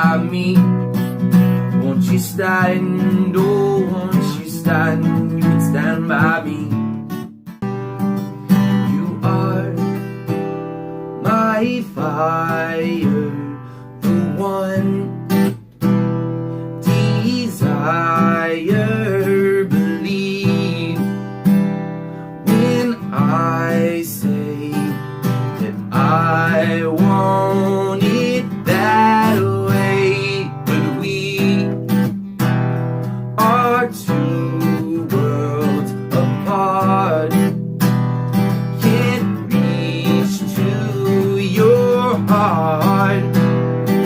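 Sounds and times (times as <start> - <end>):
acoustic guitar strumming: 0.0 - 44.0
person singing pop song: 0.0 - 44.0.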